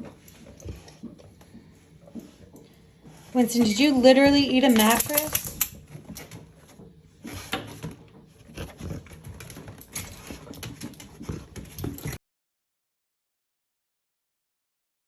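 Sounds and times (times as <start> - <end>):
dog scuffing and clicking: 0.0 - 12.2.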